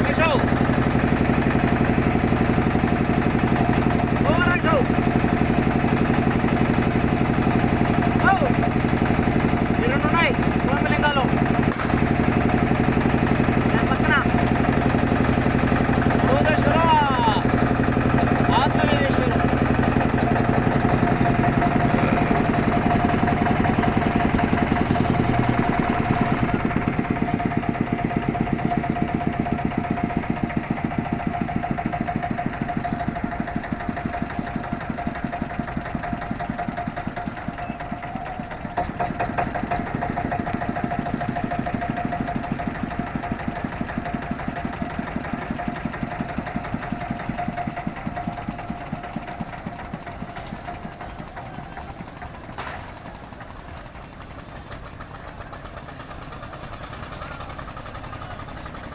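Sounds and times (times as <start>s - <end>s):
engine chugging and whining: 0.0s - 58.9s.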